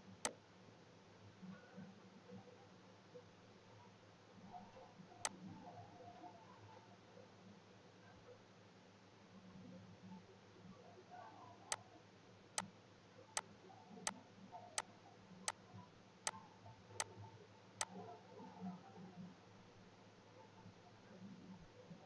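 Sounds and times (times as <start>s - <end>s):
faint room noise: 0.0s - 22.0s.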